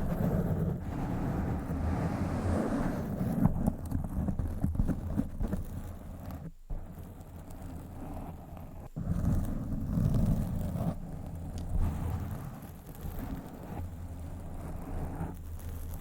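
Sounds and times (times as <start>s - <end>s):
fingers scratching microphone: 0.0s - 16.0s.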